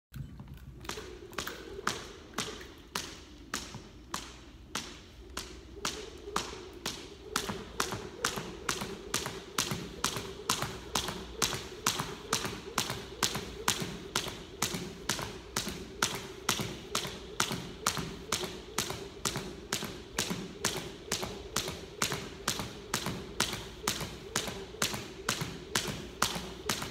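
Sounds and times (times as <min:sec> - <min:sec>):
jump rope slapping wooden floor: 0:00.6 - 0:26.9.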